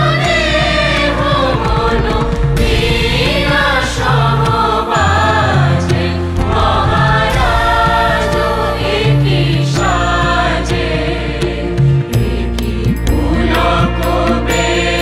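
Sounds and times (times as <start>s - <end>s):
choir singing: 0.0s - 15.0s
sustained low bass notes: 1.2s - 13.9s.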